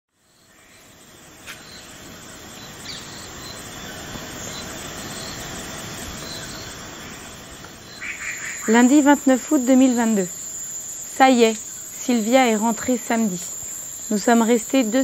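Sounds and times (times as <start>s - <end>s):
steady jungle hiss: 0.1s - 15.0s.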